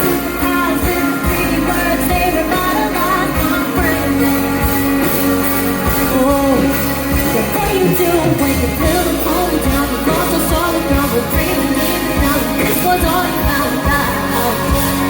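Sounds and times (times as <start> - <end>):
guitar: 0.0 - 15.0
woman singing: 0.0 - 15.0.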